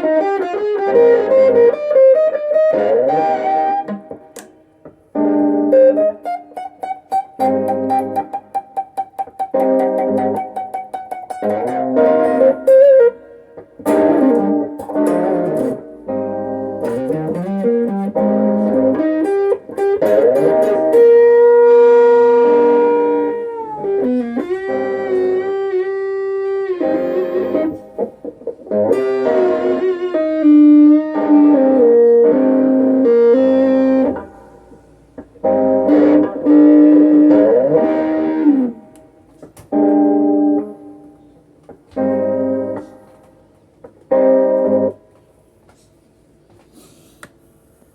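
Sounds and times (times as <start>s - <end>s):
electric guitar lead line: 0.0s - 45.3s.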